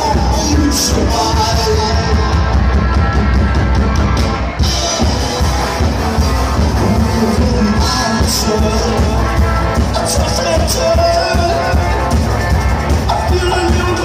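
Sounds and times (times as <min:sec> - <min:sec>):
drums: 0:00.0 - 0:14.0
live band playing loudly: 0:00.0 - 0:14.0.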